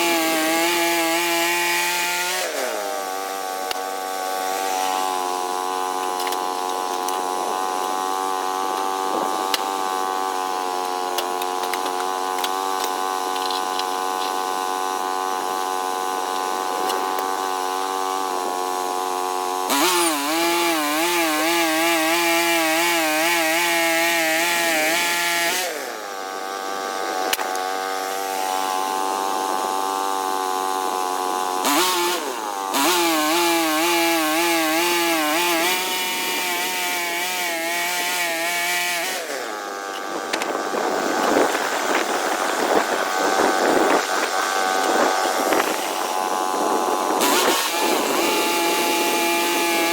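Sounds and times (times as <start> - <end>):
sawmill sawing log: 0.0 - 49.9.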